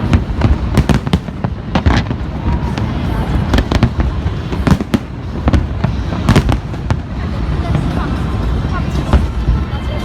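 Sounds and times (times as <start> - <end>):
fireworks bangs: 0.0 - 9.7
low rumble of fireworks: 0.0 - 10.0.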